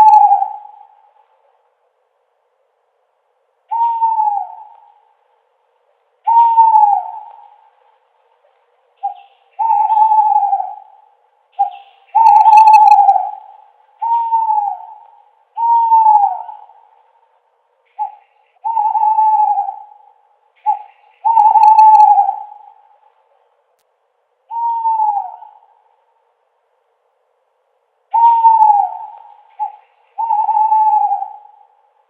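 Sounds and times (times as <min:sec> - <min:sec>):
owl hooting: 0:00.0 - 0:01.6, 0:03.6 - 0:05.4, 0:06.2 - 0:23.4, 0:24.4 - 0:26.1, 0:28.1 - 0:32.0.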